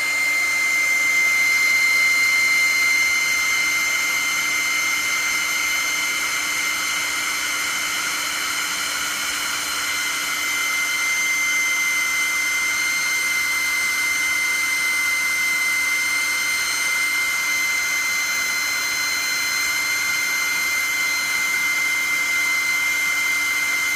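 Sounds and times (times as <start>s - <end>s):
hair dryer blowing: 0.0s - 23.9s.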